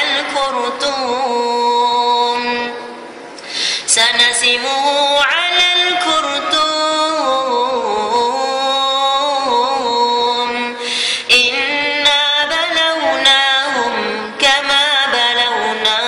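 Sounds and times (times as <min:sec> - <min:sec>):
solo voice reciting melodically: 0:00.0 - 0:02.9, 0:03.9 - 0:16.0.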